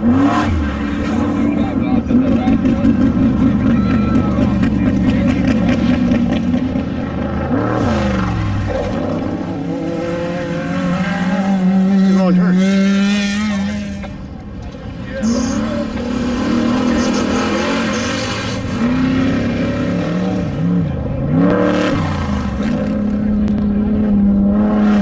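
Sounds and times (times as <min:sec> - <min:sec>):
race vehicle engine revving: 0:00.0 - 0:25.0.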